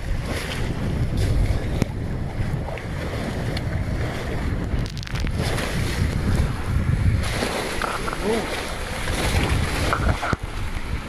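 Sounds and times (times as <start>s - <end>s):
choppy sea water rushing: 0.0s - 11.0s
wind buffeting the microphone: 0.0s - 11.0s.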